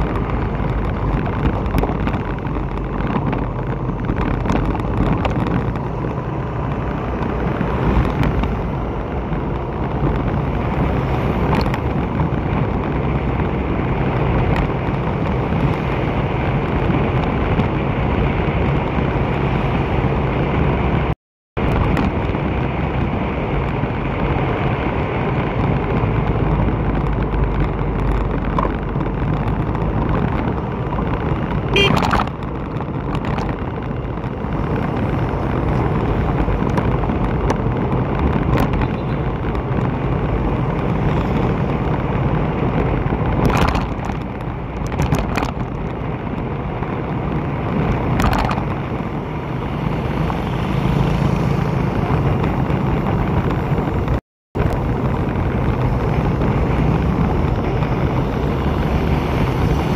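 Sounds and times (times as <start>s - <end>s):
vehicle engine: 0.0s - 59.9s
wind buffeting microphone: 0.0s - 59.9s.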